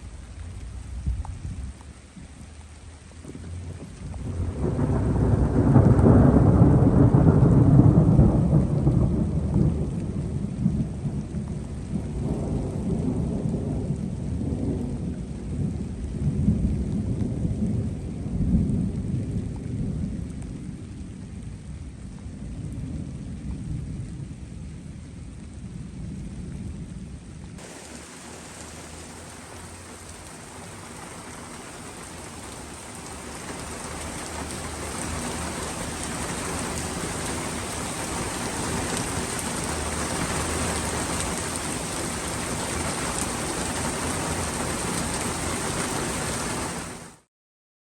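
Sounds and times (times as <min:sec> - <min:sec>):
thunder rumbling: 0:00.0 - 0:24.6, 0:25.8 - 0:46.9
steady rain hissing: 0:00.0 - 0:47.3.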